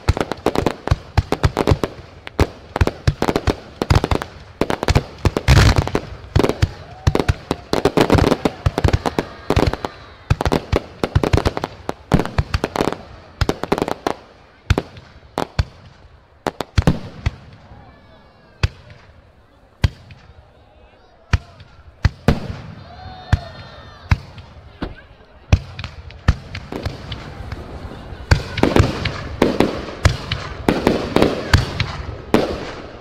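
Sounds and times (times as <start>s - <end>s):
fireworks banging: 0.0s - 17.7s, 21.3s - 33.0s.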